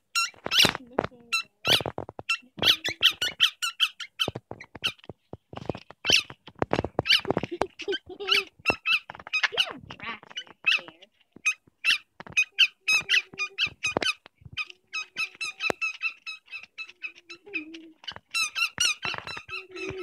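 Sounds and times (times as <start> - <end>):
squeaky toy ball squeaking: 0.1 - 20.0.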